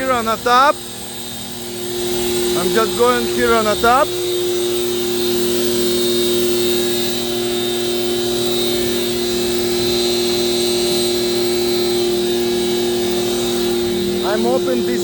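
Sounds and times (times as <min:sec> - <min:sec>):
truck engine drone: 0:00.0 - 0:15.0
vacuum pump whine: 0:00.0 - 0:15.0.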